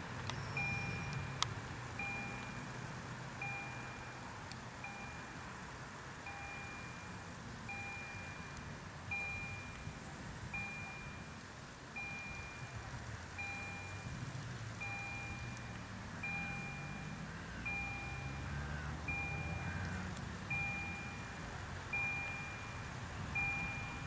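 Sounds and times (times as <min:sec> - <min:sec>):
level crossing warning bell: 0:00.0 - 0:01.4, 0:02.0 - 0:14.2, 0:14.8 - 0:24.0.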